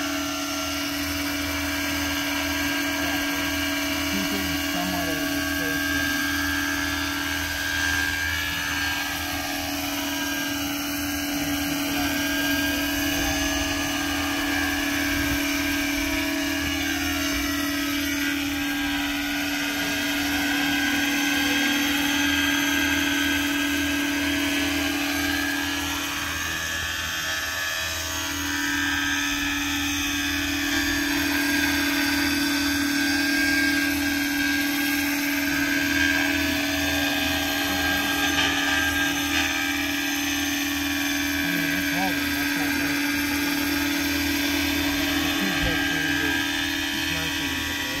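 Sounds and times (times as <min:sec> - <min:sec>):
model helicopter rotor whine: 0:00.0 - 0:48.0.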